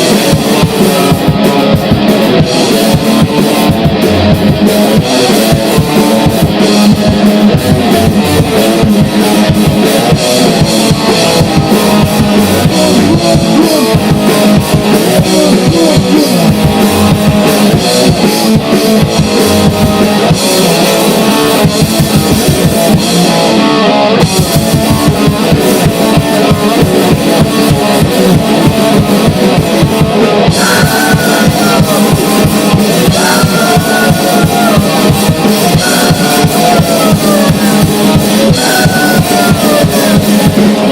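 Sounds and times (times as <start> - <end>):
distorted guitar: 0.0 - 40.9
very fast dense drumming: 0.0 - 40.9.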